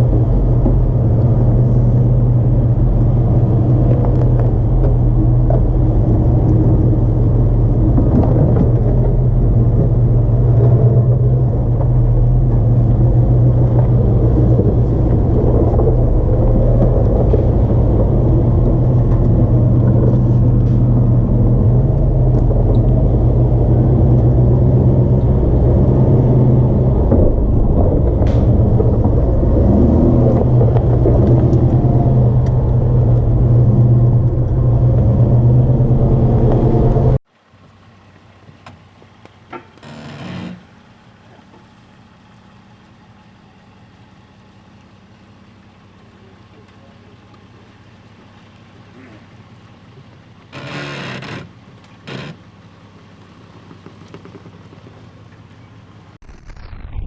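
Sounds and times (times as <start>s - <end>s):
car engine low drone: 0.0s - 57.0s.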